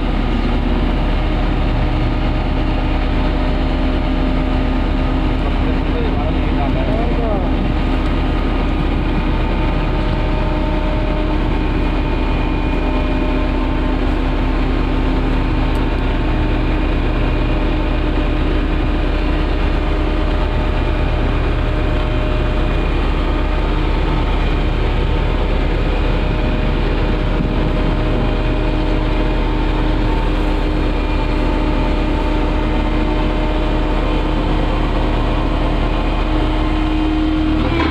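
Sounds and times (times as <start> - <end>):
heavy diesel engine running: 0.0 - 37.9.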